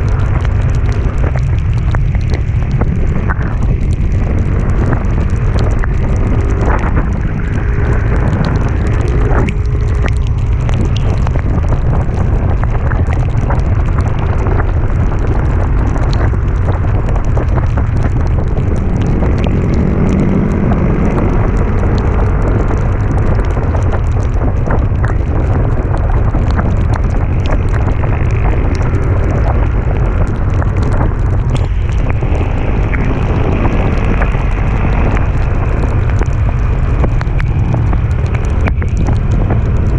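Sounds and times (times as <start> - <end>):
wind buffeting microphone: 0.0 - 39.9
small ticks: 0.1 - 33.1, 34.2 - 39.9.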